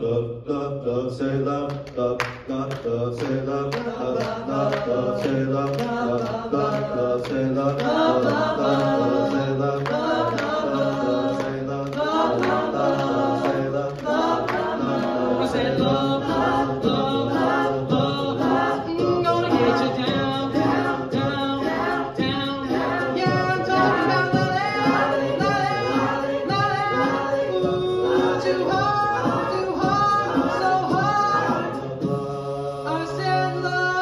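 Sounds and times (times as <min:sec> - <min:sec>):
male choir singing in harmony: 0:00.0 - 0:34.0
percussive beat: 0:01.6 - 0:34.0.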